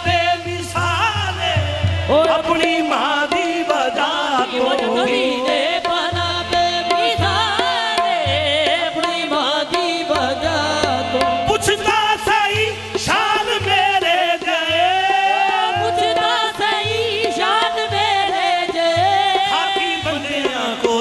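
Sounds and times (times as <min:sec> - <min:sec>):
harmonium: 0:00.0 - 0:21.0
sharp percussive hits: 0:00.0 - 0:21.0
person singing ornamented vocals: 0:02.1 - 0:21.0.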